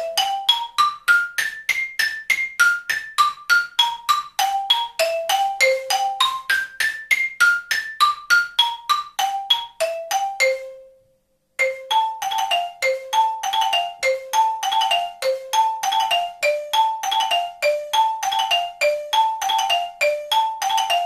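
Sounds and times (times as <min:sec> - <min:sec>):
xylophone notes: 0:00.0 - 0:21.0.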